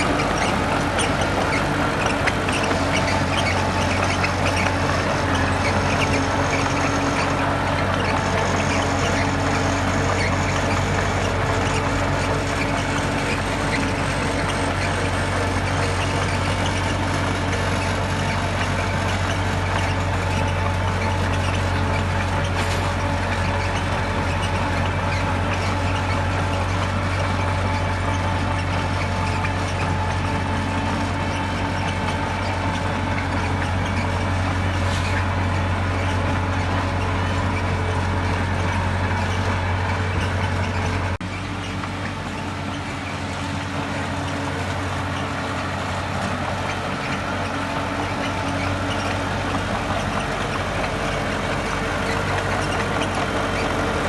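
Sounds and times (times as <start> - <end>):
diesel machinery engine hum: 0.0 - 54.0.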